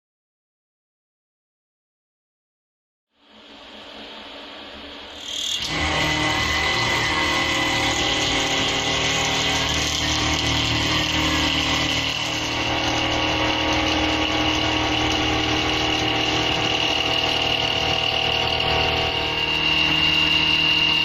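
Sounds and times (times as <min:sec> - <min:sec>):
machine hum: 0:03.2 - 0:21.0
milling spindle high whine: 0:03.2 - 0:21.0.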